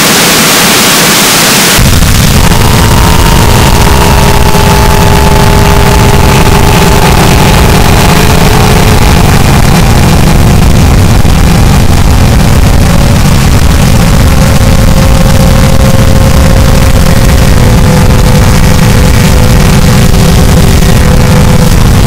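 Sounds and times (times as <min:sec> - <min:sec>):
distorted electronic noise music: 0:00.0 - 0:22.0.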